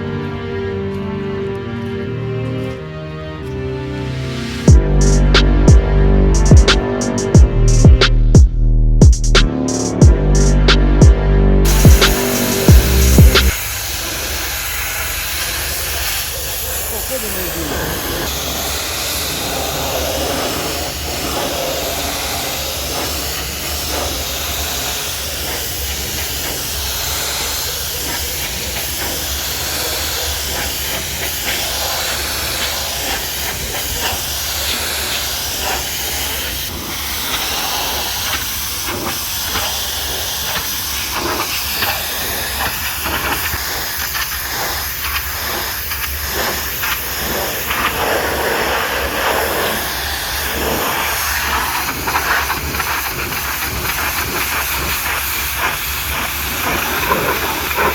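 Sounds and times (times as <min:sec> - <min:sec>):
pressure washer spraying water: 0:04.7 - 0:08.3, 0:09.1 - 0:57.9.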